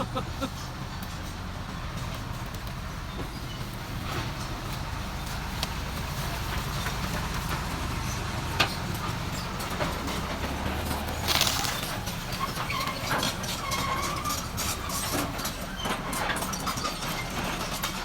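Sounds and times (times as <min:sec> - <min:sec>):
diesel machine rumbling: 0:00.0 - 0:18.0.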